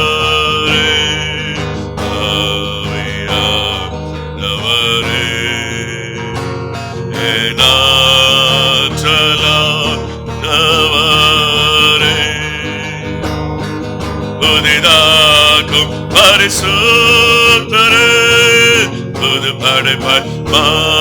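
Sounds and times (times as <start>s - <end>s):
person singing long held notes: 0.0s - 13.3s, 14.4s - 21.0s
instrumental backing: 0.0s - 21.0s.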